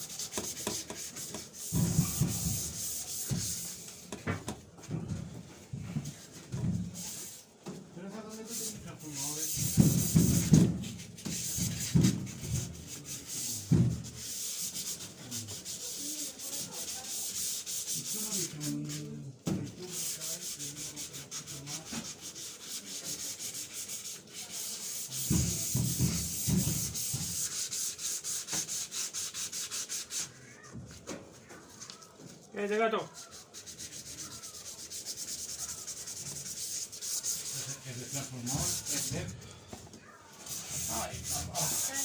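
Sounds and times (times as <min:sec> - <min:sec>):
sandpaper rubbing sheet metal: 0:00.0 - 0:04.1, 0:06.9 - 0:07.5, 0:08.2 - 0:30.6, 0:32.6 - 0:39.3, 0:40.4 - 0:42.0.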